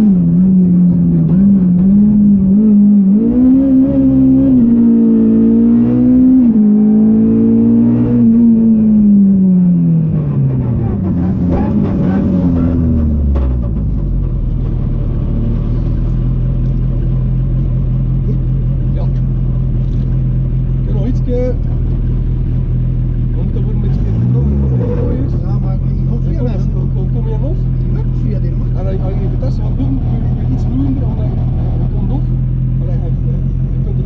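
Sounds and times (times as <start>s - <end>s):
car engine from inside cabin: 0.0s - 34.0s.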